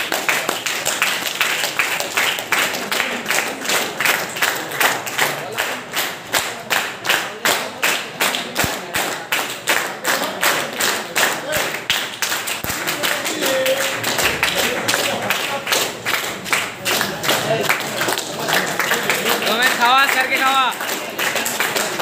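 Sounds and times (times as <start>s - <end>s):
group clapping in rhythm: 0.0s - 22.0s.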